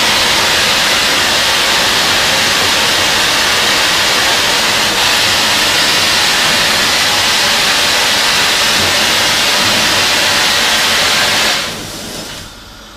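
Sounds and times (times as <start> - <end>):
thread whirling machine hissing: 0.0 - 12.8.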